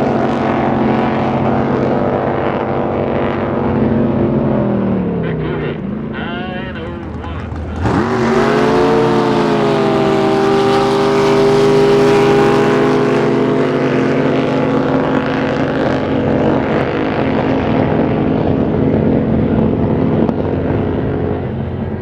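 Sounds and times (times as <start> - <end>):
racing boat engine running hard: 0.0 - 22.0.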